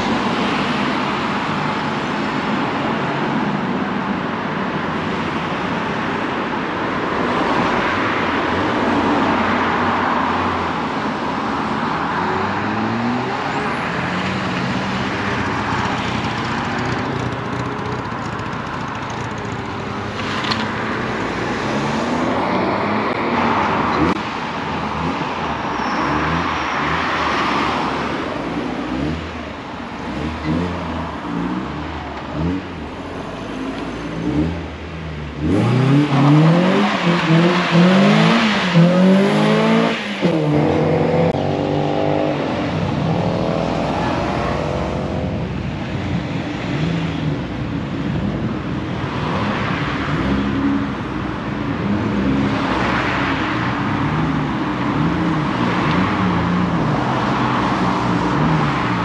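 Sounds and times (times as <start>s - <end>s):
car engines accelerating: 0.0s - 59.0s.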